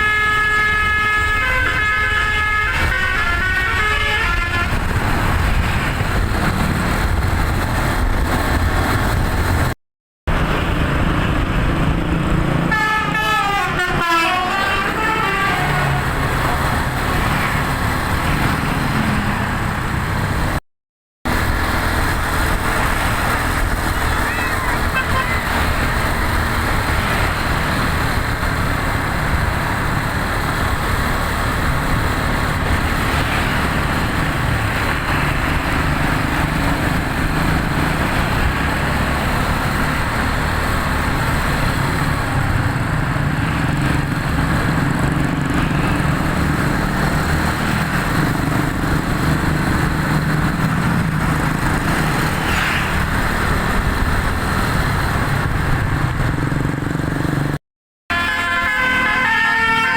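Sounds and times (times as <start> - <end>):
roadside traffic noise: 0.0 - 20.6, 21.2 - 59.9.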